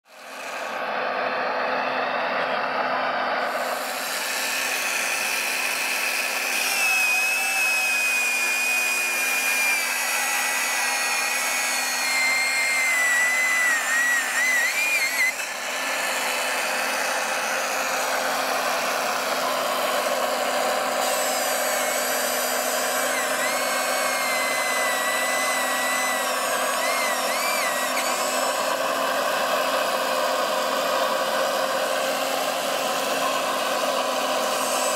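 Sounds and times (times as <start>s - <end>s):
electric saw motor whining: 0.1s - 34.9s.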